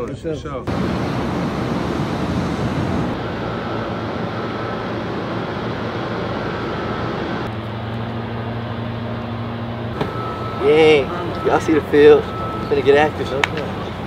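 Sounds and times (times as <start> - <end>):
rushing background noise: 0.7 - 14.0.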